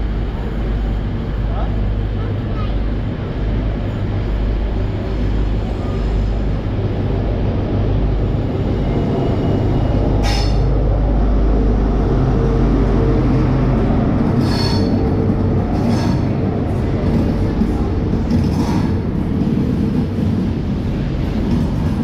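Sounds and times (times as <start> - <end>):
diesel train engine rumbling: 0.0 - 22.0.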